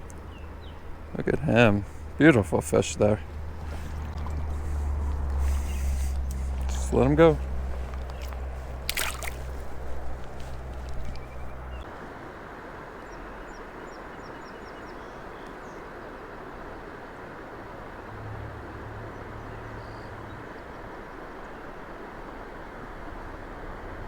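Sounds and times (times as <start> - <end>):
rushing outdoor background noise: 0.0 - 24.0.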